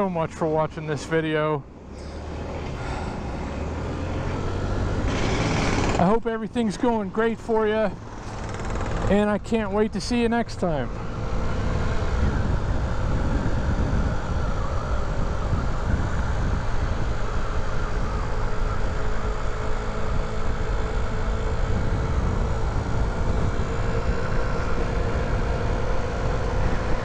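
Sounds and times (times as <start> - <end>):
wind rumbling on microphone: 2.3 - 27.0.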